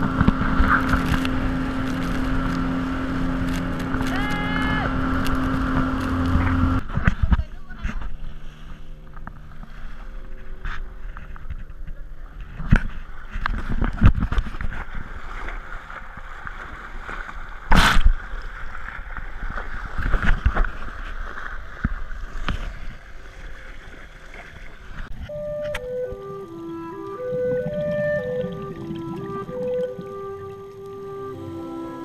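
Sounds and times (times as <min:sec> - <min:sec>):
water sloshing and splashing: 0:00.0 - 0:31.9.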